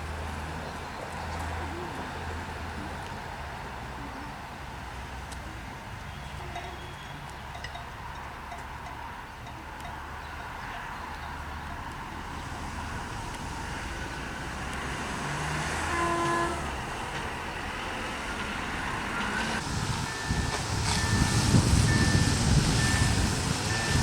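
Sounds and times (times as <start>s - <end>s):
diesel railcar engine rumble: 0.0s - 24.0s.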